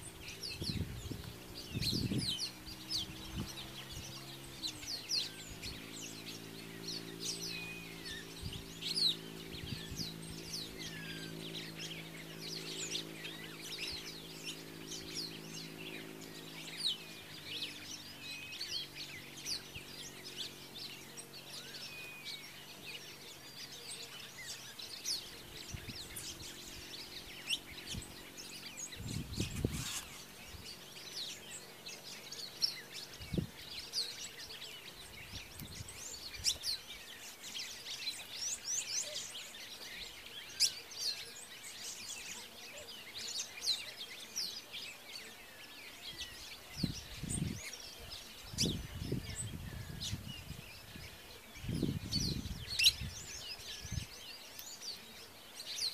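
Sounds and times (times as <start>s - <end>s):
birds chirping and calling: 0.0s - 55.9s.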